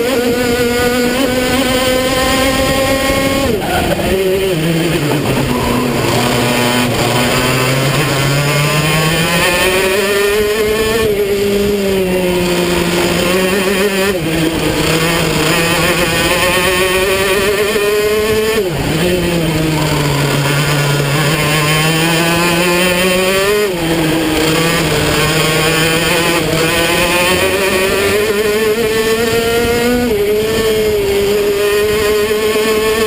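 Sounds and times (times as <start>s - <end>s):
kart engine revving: 0.0s - 33.0s.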